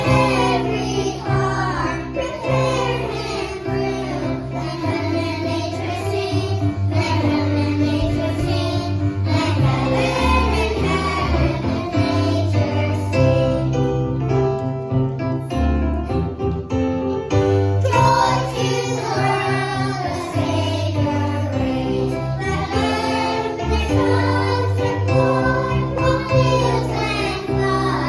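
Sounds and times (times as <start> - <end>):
children singing: 0.0 - 13.8, 17.8 - 28.0
keyboard and bass accompaniment: 0.0 - 28.0.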